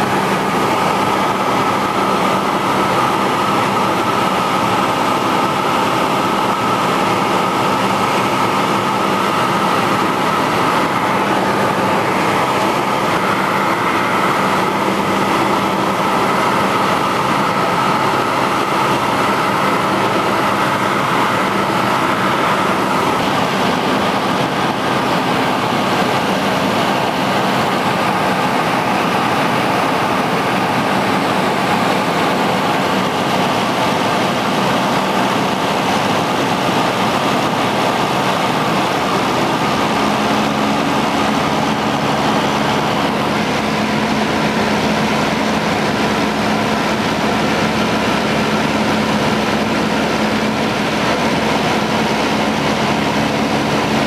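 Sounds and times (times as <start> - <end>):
airplane engine and propeller droning: 0.0 - 54.0.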